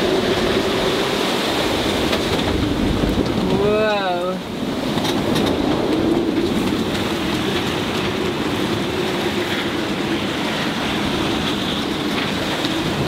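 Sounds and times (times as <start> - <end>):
rough waves: 0.0 - 13.0
strong wind rushing: 0.0 - 13.0.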